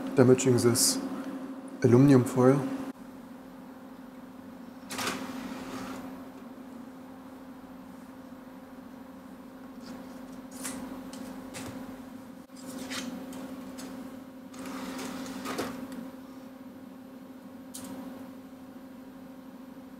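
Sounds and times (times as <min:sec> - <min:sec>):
computer humming: 0:00.0 - 0:19.9.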